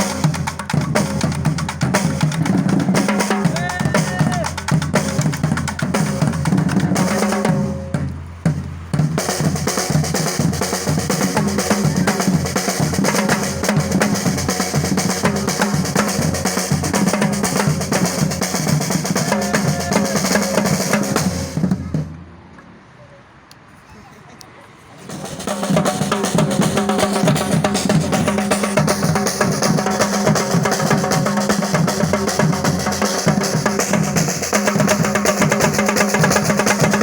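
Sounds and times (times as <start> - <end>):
drum-driven music: 0.0 - 22.2, 25.0 - 37.0.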